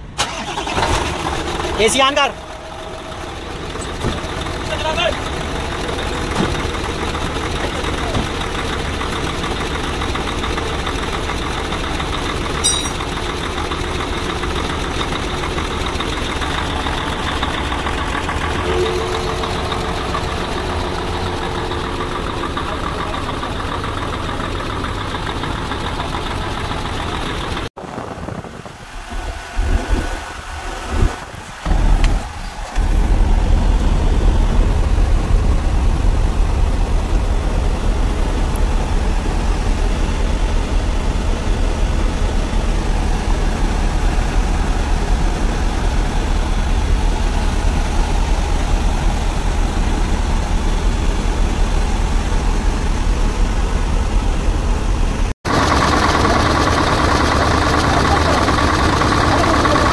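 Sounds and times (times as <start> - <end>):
truck diesel engine idling: 0.0 - 28.4, 31.6 - 59.9.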